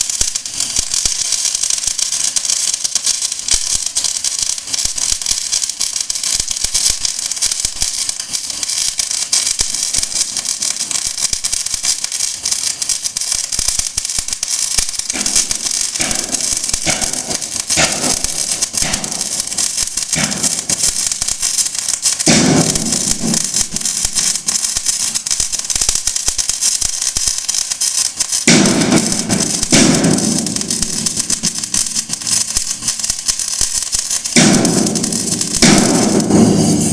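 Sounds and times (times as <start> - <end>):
welding arc crackling: 0.0 - 36.9.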